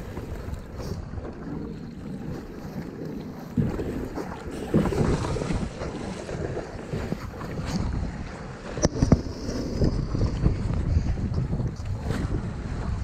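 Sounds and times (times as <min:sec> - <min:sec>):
water splashing against kayak: 0:00.0 - 0:13.0
wind buffeting microphone: 0:00.0 - 0:13.0.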